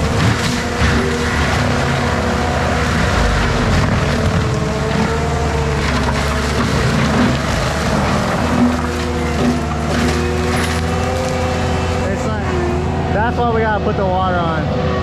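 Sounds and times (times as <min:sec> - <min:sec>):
mulcher shredding wood: 0:00.0 - 0:14.4
diesel engine running under load: 0:00.0 - 0:15.0.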